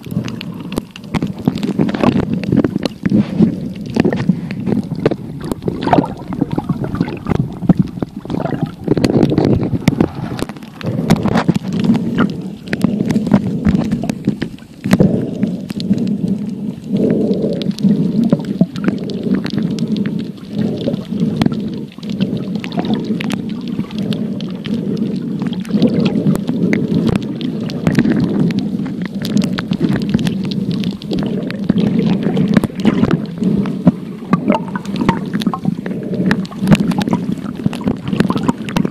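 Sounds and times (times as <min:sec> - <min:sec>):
muffled underwater rumbling: 0:00.0 - 0:38.9
small clicks underwater: 0:00.0 - 0:38.9
water gurgling: 0:00.0 - 0:38.9.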